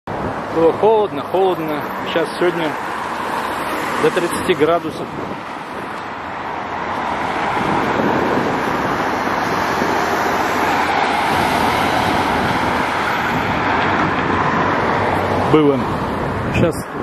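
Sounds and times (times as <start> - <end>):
cars driving past: 0.1 - 17.0.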